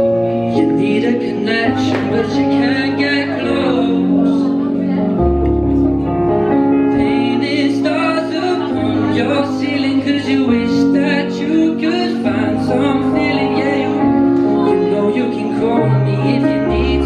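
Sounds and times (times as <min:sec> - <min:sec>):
live band playing pop song: 0:00.0 - 0:17.0
person singing: 0:00.0 - 0:17.0.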